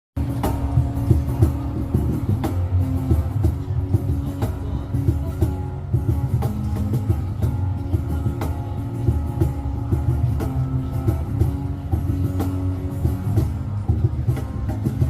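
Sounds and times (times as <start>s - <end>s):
electric guitar: 0.2s - 15.0s
live rock band playing: 0.2s - 15.0s.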